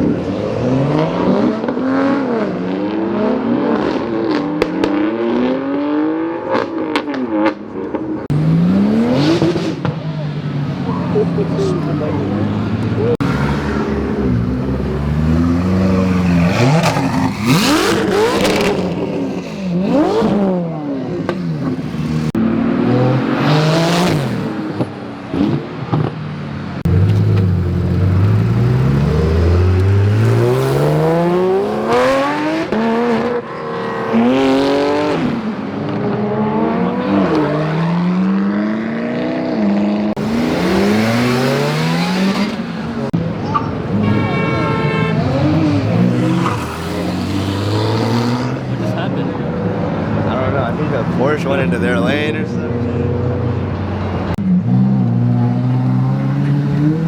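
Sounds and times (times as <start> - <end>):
car engines revving hard: 0.0 - 57.0
cars passing by: 0.0 - 57.0.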